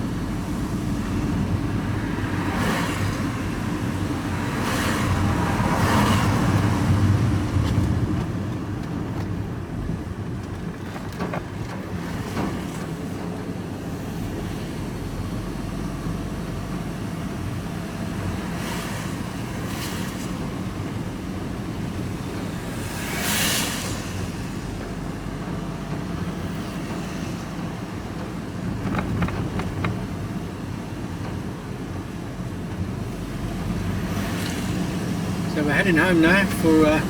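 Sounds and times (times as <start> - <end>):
van engine hum and road noise: 0.0 - 37.0.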